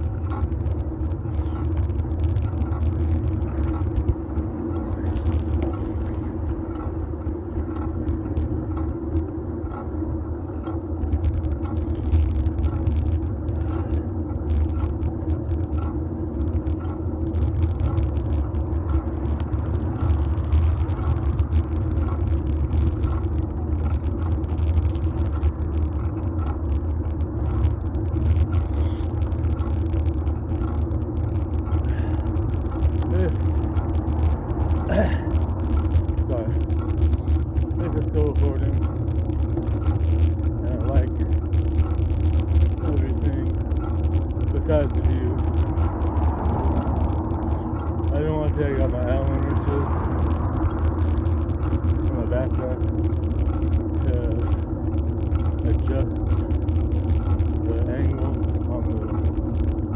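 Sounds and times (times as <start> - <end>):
bike tyres rumbling on pavement: 0.0 - 59.9
faint ticking: 0.0 - 59.9
small clicks and rattles: 0.0 - 59.9.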